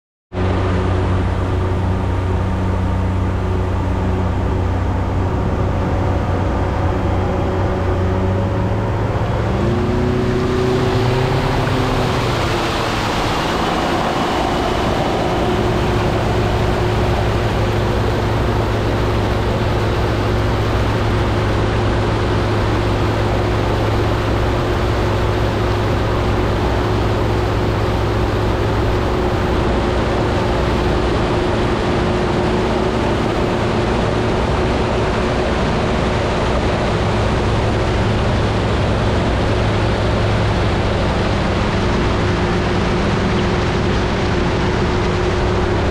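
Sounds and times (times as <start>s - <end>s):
outboard boat engines: 0.3s - 45.9s
water rushing past hull: 0.4s - 45.9s.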